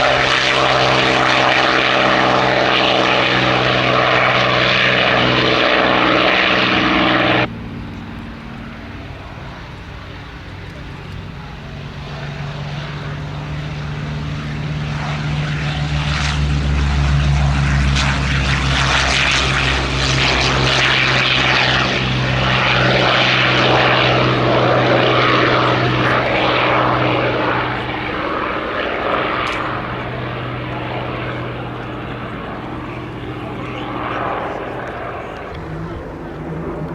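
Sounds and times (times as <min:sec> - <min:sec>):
propeller plane engine passing: 0:00.0 - 0:36.9.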